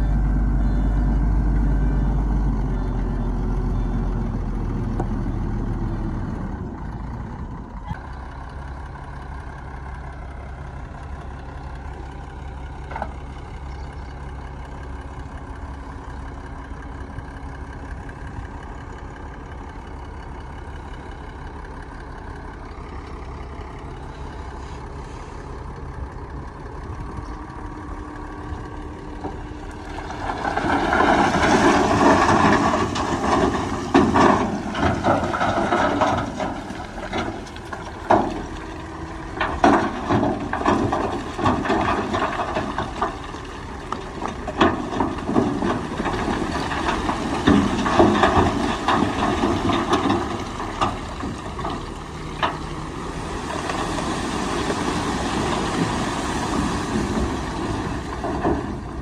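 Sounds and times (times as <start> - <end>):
diesel machinery running: 0.0 - 59.0
rattling rush of dirt and stones: 0.0 - 59.0.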